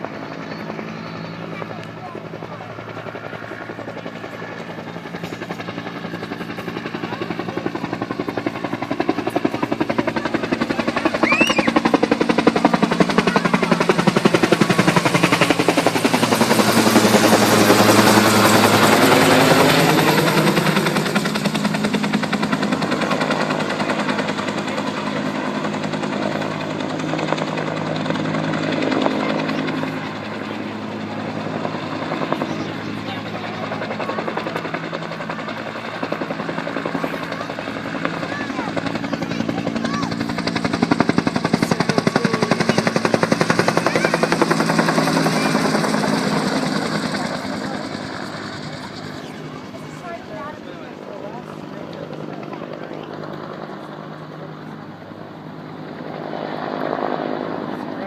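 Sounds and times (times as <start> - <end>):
helicopter rotor beating: 0.0 - 58.0.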